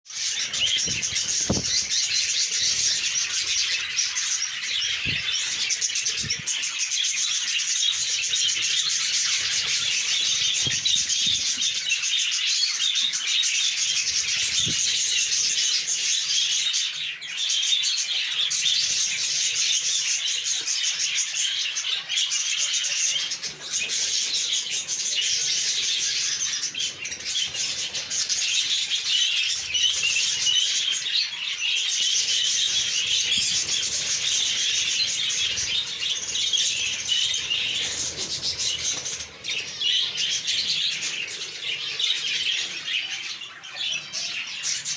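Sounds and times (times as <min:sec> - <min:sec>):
small birds chirping: 0:00.1 - 0:44.9.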